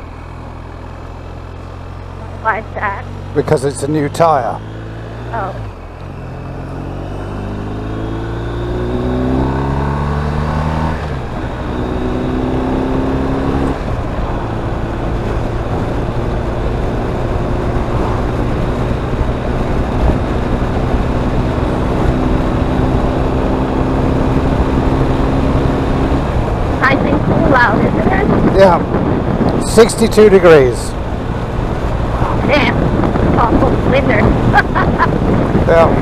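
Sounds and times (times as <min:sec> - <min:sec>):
motorcycle engine accelerating: 0:00.0 - 0:36.0
wind and road noise: 0:00.0 - 0:36.0.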